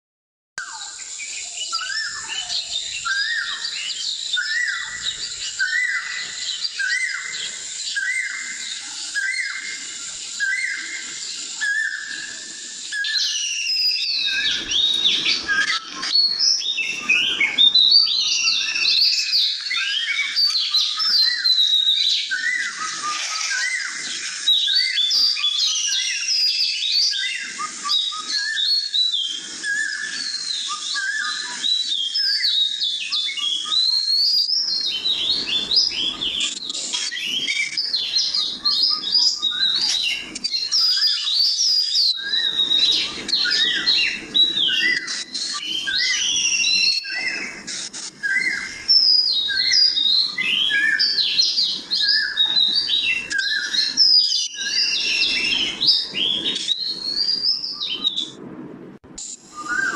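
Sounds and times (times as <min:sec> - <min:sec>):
birds chirping and whistling: 0:00.6 - 0:58.5, 0:59.2 - 0:59.9.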